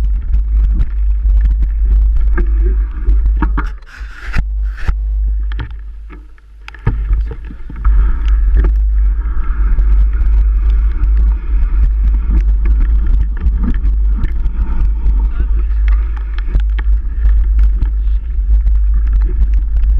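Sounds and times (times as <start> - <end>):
bike knocking and rattling: 0.0 - 19.9
wind rumble on microphone: 0.0 - 19.9.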